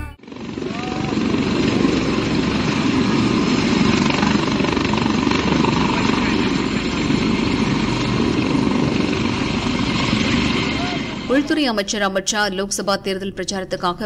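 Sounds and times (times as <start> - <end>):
helicopter engine noise: 0.1 - 11.8
helicopter rotor chop: 0.2 - 12.1.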